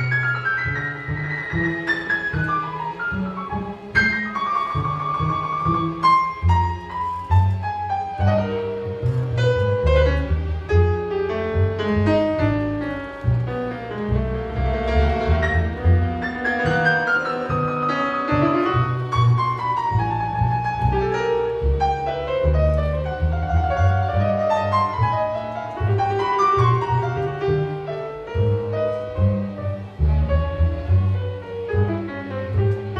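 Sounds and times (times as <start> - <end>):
heavy low strings: 0.0 - 32.9
piano: 0.0 - 32.9.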